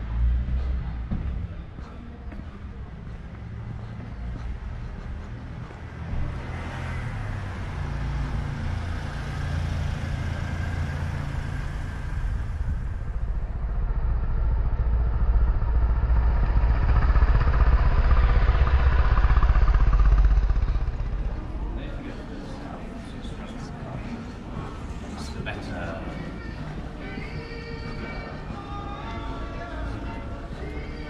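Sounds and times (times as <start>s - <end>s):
vehicle engine running: 0.0s - 25.4s.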